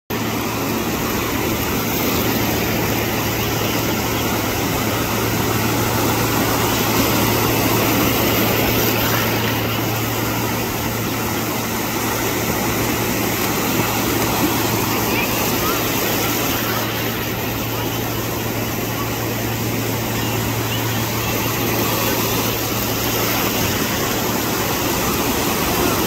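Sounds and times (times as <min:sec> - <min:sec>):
low hum: 0:00.1 - 0:26.0
ocean surf breaking: 0:00.1 - 0:26.0.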